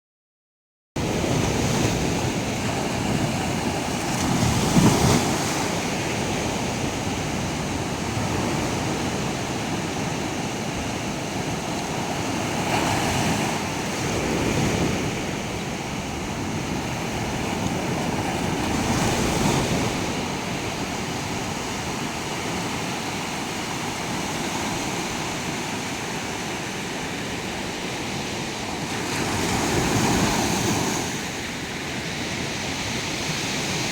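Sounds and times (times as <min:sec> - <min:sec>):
surf washing onto beach: 0:01.0 - 0:33.9.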